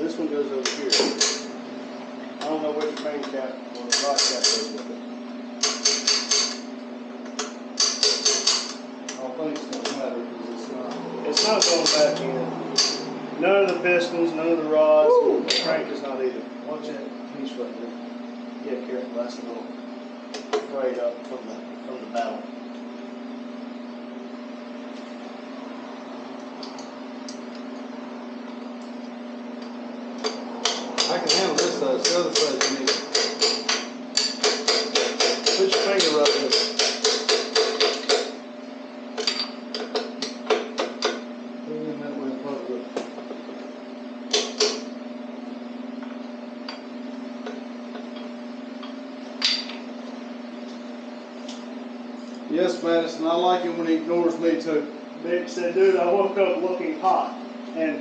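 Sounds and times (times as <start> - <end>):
electrical hum: 0.0 - 58.0.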